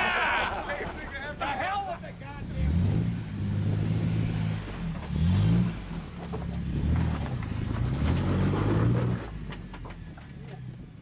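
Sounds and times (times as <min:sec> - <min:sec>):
engine revving: 0:01.4 - 0:10.9.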